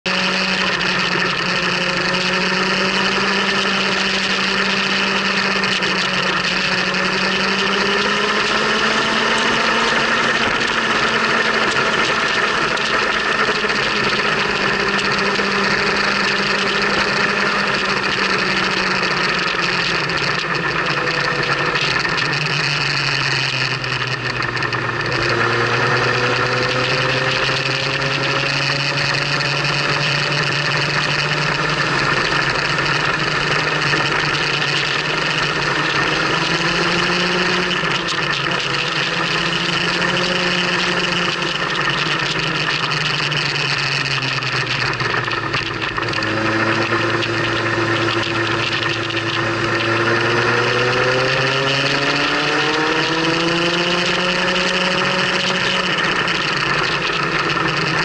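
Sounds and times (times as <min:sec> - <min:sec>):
motorcycle engine running: 0:00.0 - 0:58.0
wind and road noise: 0:00.1 - 0:58.0.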